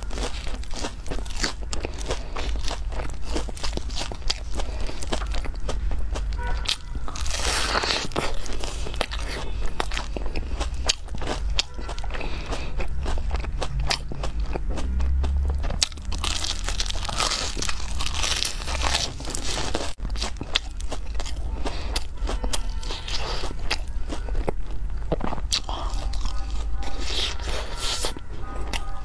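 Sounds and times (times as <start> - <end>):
crunching and chewing: 0.0 - 29.0.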